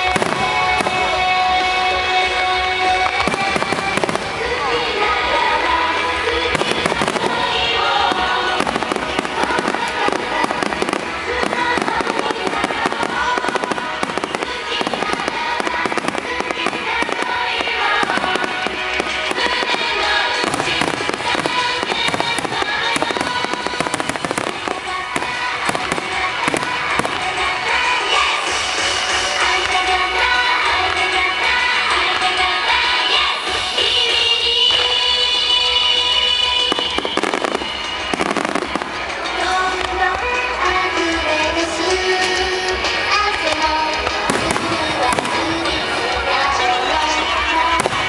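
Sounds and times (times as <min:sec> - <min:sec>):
fireworks exploding and crackling: 0:00.0 - 0:48.0
music playing: 0:00.0 - 0:48.0.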